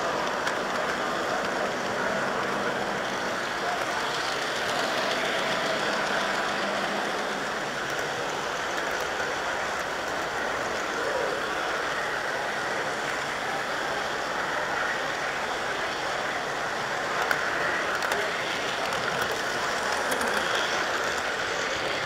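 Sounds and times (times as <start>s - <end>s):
model train rolling on track: 0.0s - 22.0s.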